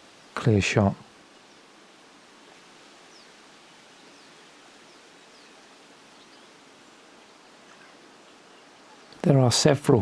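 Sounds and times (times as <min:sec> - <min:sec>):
distant small birds chirping: 0:00.0 - 0:10.0
steady hiss: 0:00.0 - 0:10.0.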